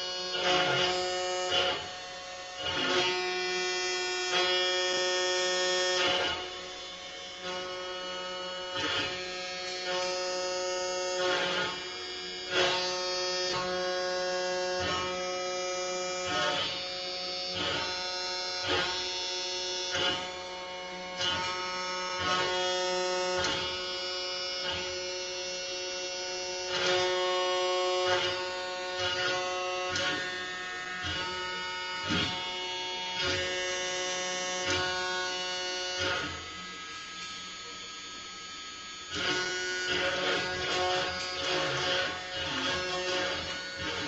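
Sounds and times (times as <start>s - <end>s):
router spindle whine: 0.0s - 44.0s.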